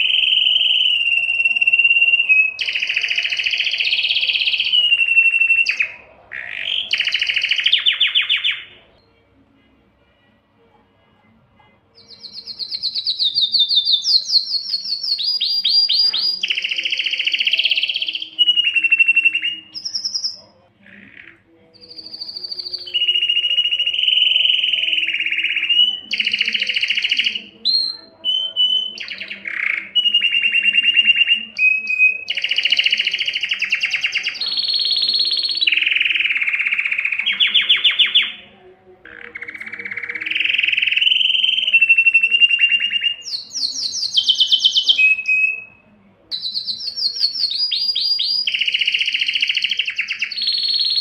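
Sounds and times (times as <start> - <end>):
canary singing trills: 0.0 - 9.5, 11.6 - 51.0.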